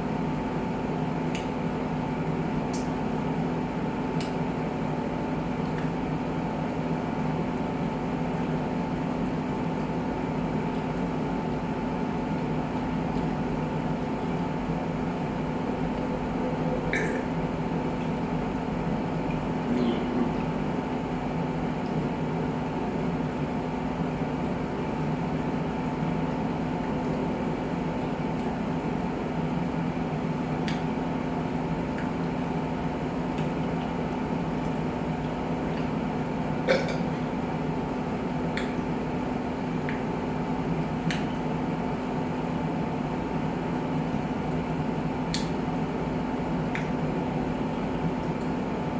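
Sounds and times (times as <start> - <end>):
two-tone mechanical hum: 0.0 - 48.9.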